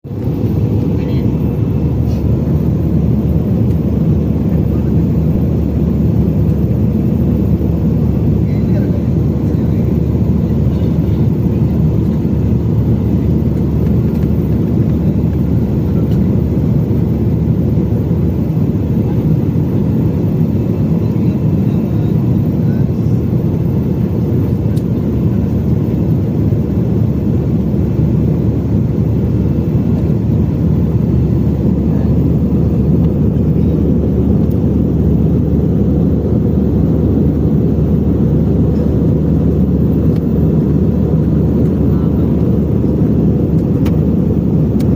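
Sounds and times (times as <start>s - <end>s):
airliner engine rumble in cabin: 0.1s - 44.9s.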